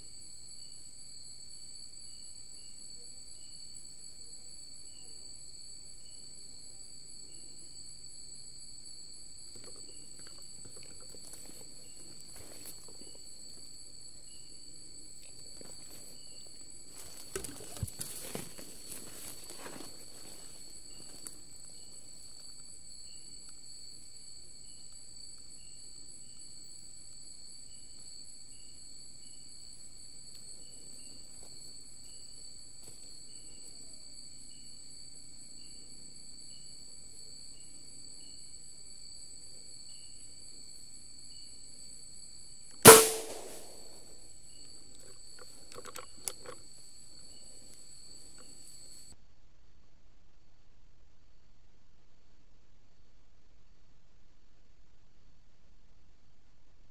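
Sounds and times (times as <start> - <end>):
insect chirp call: 0.0 - 49.2
insects droning: 0.0 - 49.2.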